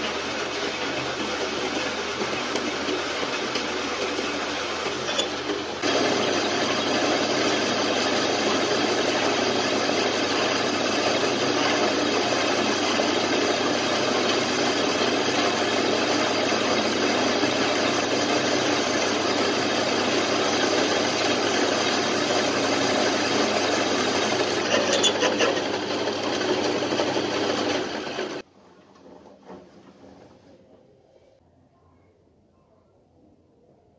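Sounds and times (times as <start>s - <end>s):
metal lathe drilling steel: 0.0s - 28.4s.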